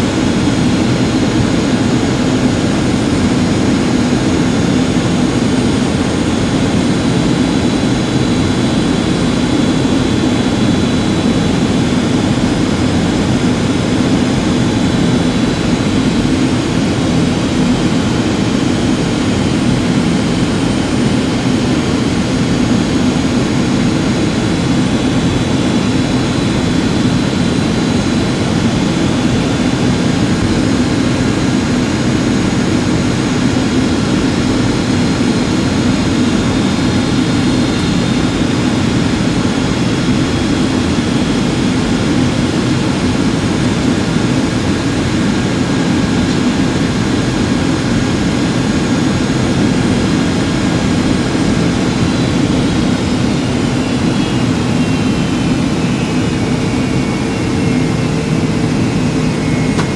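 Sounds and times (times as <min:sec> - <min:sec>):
jet engines and airflow: 0:00.0 - 0:59.9.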